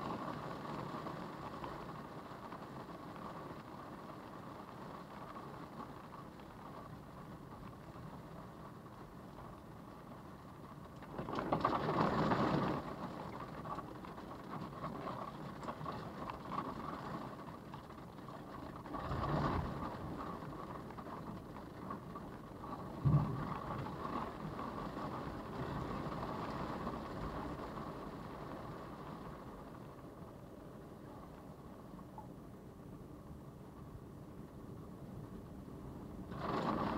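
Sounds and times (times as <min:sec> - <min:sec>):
wind and rain buffeting vehicle: 0:00.0 - 0:36.9.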